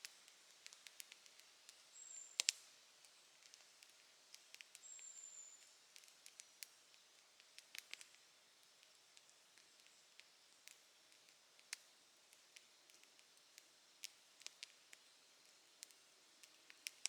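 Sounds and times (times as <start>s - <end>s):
campfire crackling and popping: 0.0s - 1.8s, 2.4s - 4.9s, 5.9s - 17.0s.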